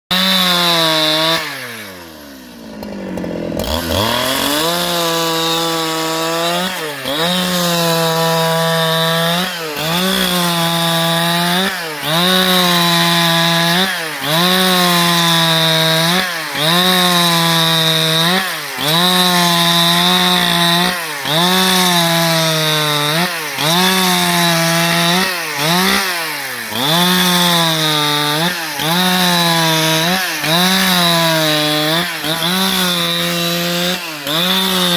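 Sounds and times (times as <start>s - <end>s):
chainsaw sawing through wood: 0.0s - 34.9s.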